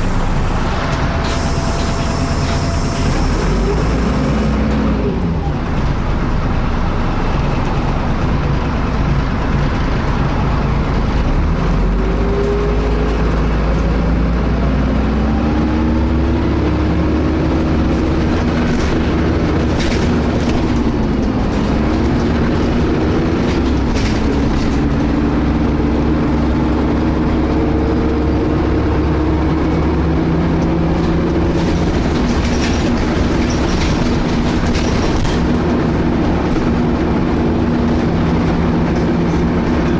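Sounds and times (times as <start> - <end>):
bus engine and road rumble: 0.0 - 39.9
bus rattles: 0.0 - 39.9.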